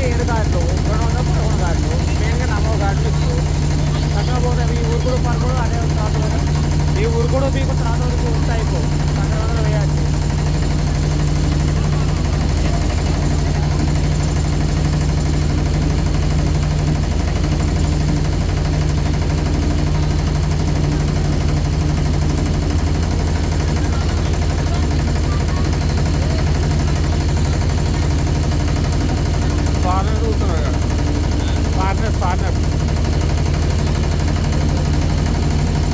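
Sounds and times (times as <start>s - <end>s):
motorboat engine running: 0.0s - 35.9s.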